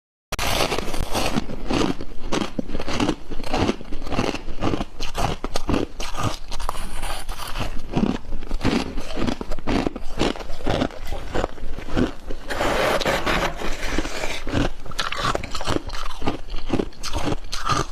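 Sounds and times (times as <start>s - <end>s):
chewing crunchy ice: 0.4s - 17.9s.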